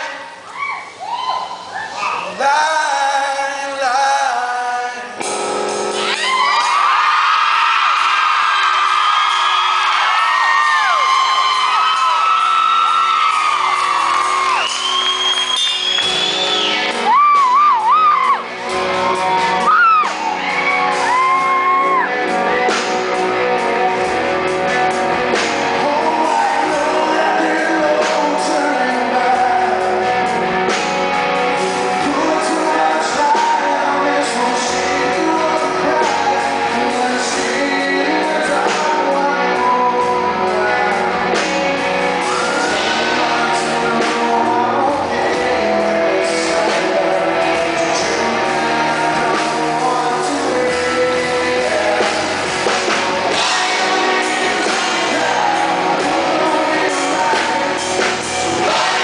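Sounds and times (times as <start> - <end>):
man singing lead: 2.2 - 7.5, 8.2 - 59.0
guitar-driven rock music: 3.5 - 59.0.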